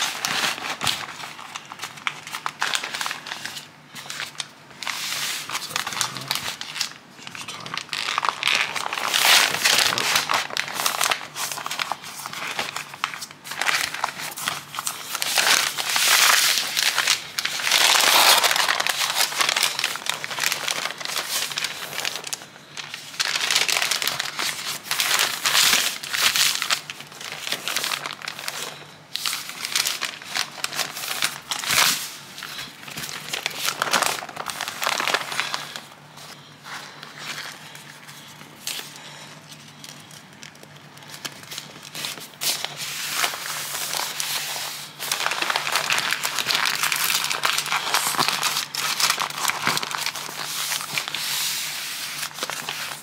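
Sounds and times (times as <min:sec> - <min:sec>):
paper crinkling: 0:00.0 - 0:53.0.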